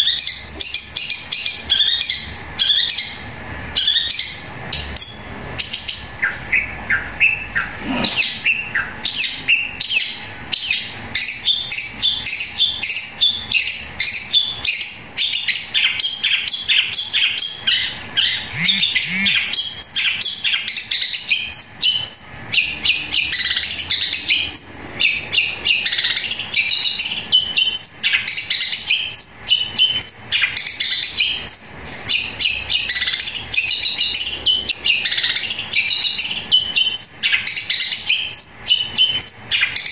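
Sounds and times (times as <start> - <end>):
bird singing rapid chirps: 0.0 - 39.9
mimicked sparrow calls: 3.8 - 39.9.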